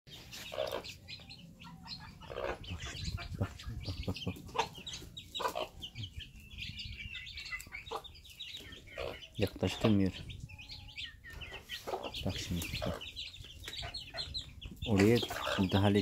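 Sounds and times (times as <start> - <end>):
chicks peeping: 0.1 - 16.0
hen clucking: 0.1 - 16.0.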